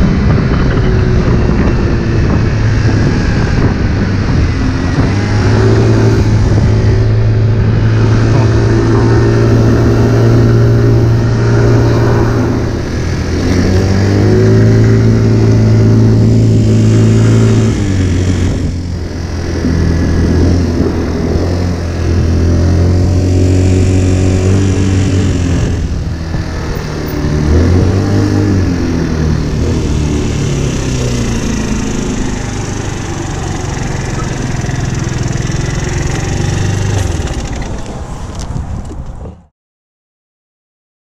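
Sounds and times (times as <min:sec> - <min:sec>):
moped engine running: 0:00.0 - 0:38.0.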